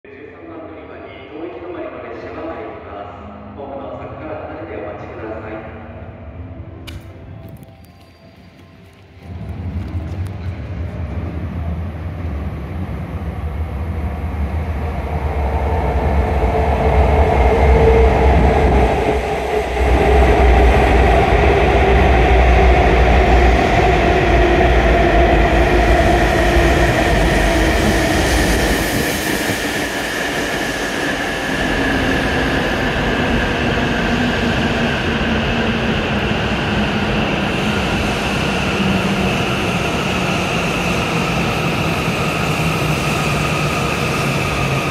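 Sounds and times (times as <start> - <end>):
train rush and low rumble: 0.0 - 44.9.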